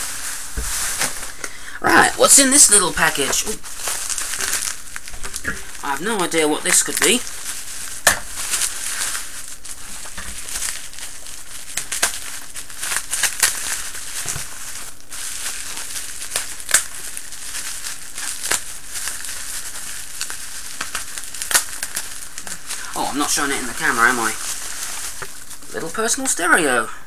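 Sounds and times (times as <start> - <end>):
packaging crinkling and rustling: 0.0 - 26.4
sharp crackles and clicks: 1.9 - 26.4.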